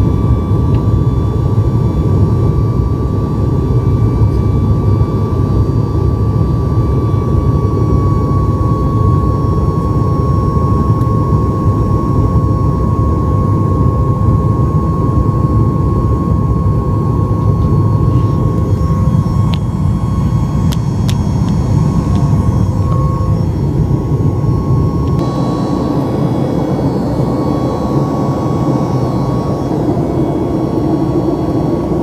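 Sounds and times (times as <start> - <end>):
jet cabin low rumble: 0.0 - 32.0
thin steady whine: 0.0 - 32.0.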